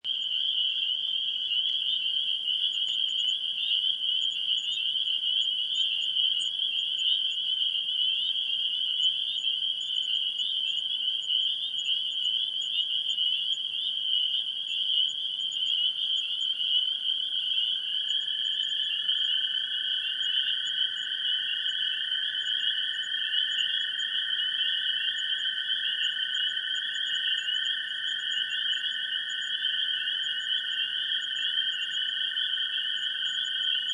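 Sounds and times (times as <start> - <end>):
high trill of frogs: 0.0 - 33.9
lower frog chorus: 0.0 - 33.9.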